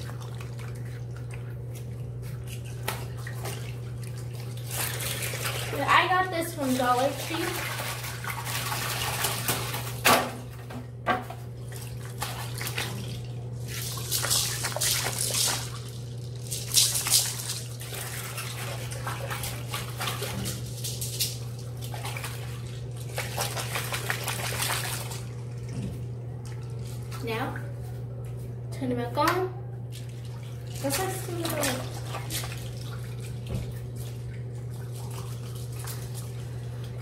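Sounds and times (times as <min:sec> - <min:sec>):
water sloshing and splashing: 0:00.0 - 0:28.5, 0:29.8 - 0:37.0
steady low hum: 0:00.0 - 0:37.0.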